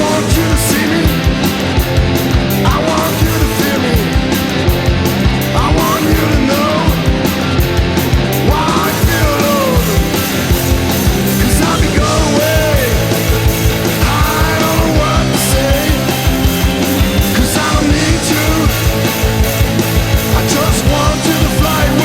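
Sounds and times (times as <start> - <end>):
driving drum beat: 0.0 - 22.0
punk rock band playing: 0.0 - 22.0.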